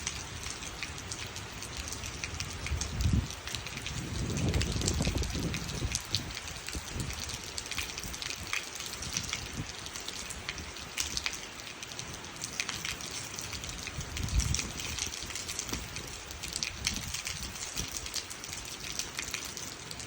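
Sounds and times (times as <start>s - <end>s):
light rain: 0.0s - 20.0s.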